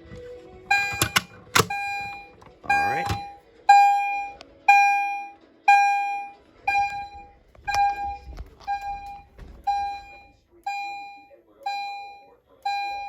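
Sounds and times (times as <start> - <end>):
fire alarm electronic tone: 0.7 - 13.0.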